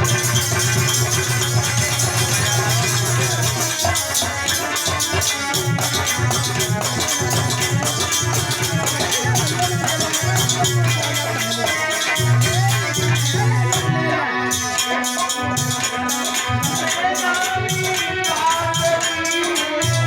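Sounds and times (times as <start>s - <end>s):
shaker-like percussion: 0.0s - 20.0s.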